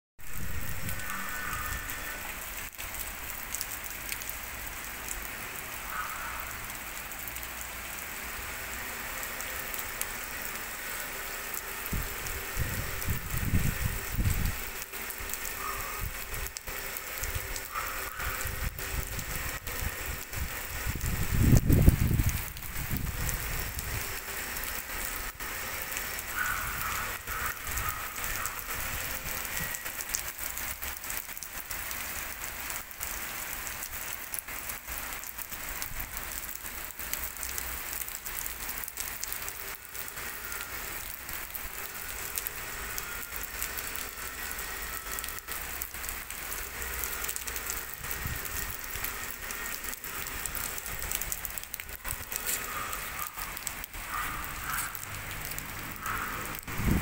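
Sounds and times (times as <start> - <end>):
heavy rain on standing water: 0.2 - 57.0.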